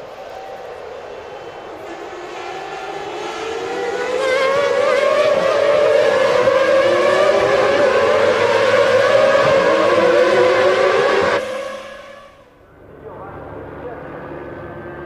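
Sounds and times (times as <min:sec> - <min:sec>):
racing car engines at high revs: 0:00.0 - 0:15.0.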